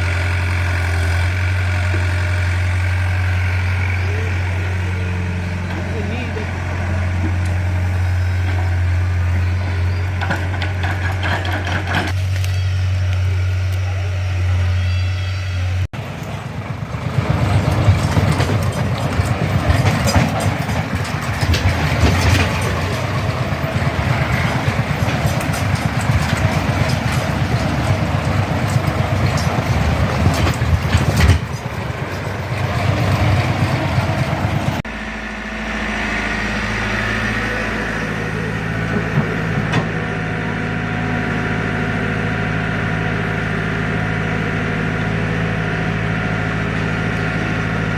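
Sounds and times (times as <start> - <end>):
tractor engine idling: 0.0 - 47.9
tractor engine running hard: 0.0 - 47.9.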